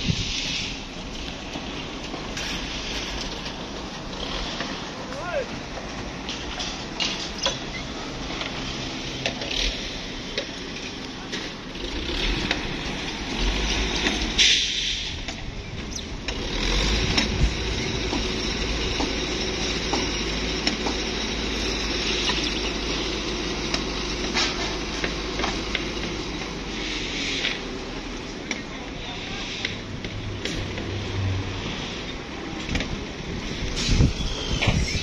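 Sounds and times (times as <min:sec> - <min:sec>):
engine rumble: 0:00.0 - 0:35.0.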